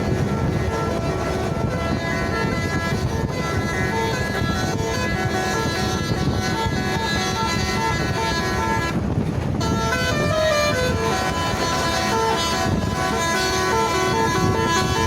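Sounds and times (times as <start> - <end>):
engine rumble: 0.0 - 15.0
musical truck horn playing a tune: 0.0 - 15.0.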